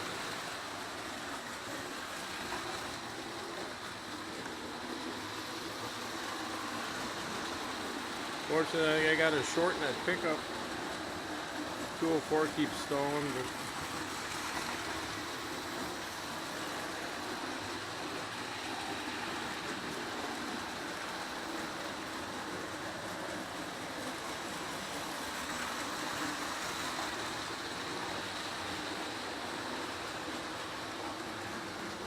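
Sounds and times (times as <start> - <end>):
model trains whirring on track: 0.0 - 32.0.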